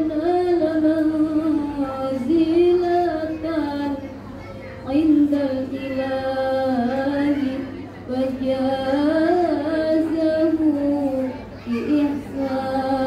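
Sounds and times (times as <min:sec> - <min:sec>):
women singing in unison: 0:00.0 - 0:04.0, 0:04.9 - 0:13.0.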